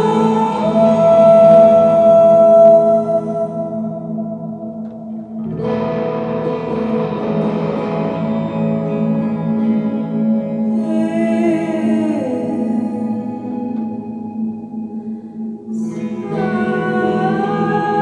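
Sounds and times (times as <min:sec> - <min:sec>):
electric guitar with effects: 0:00.0 - 0:18.0.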